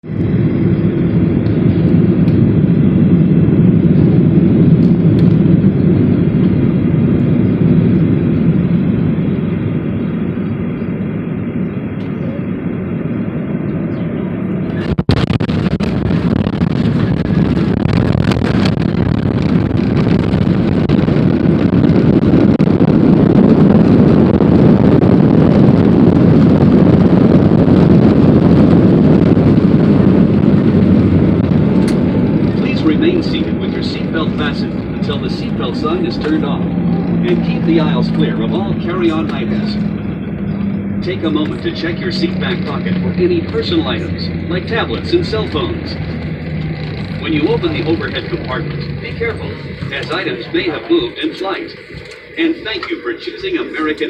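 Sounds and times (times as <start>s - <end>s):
rushing air: 0.0s - 53.7s
jet engines rumbling: 0.0s - 54.0s.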